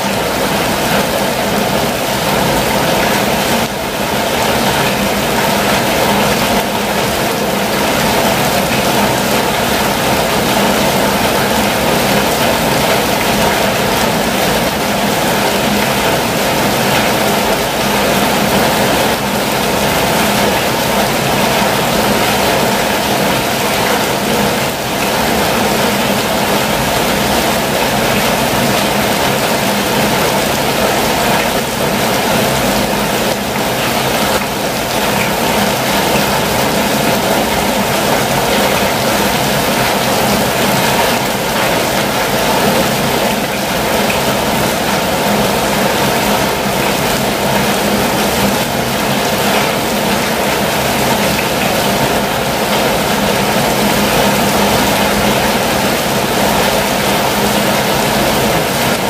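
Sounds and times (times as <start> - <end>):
heavy rain on vehicle roof: 0.0 - 59.0.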